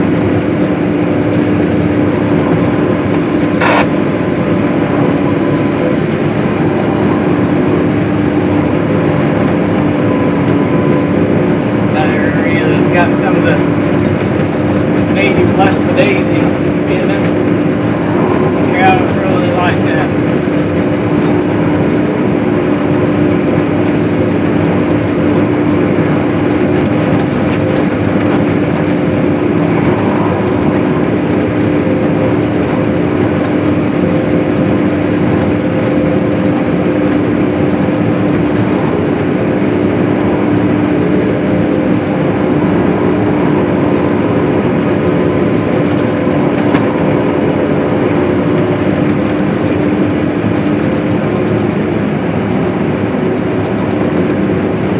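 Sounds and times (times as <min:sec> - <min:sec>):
farm machine engine drone: 0:00.0 - 0:54.9.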